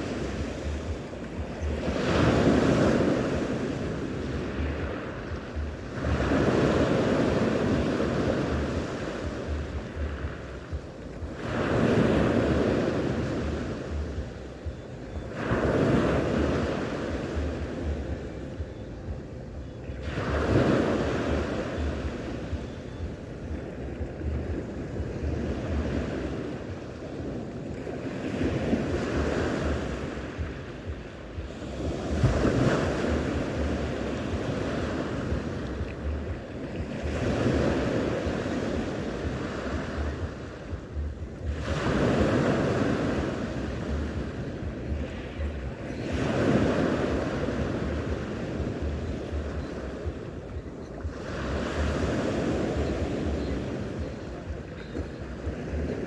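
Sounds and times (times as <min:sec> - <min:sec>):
sea waves breaking: 0:00.0 - 0:56.0
wind buffeting microphone: 0:00.0 - 0:56.0.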